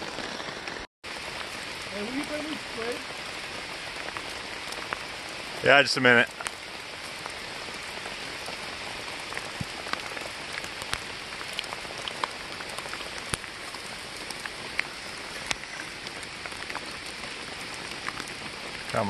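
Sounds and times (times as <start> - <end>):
steady rain hiss: 0.0 - 19.0
raindrops ticking: 0.3 - 19.0.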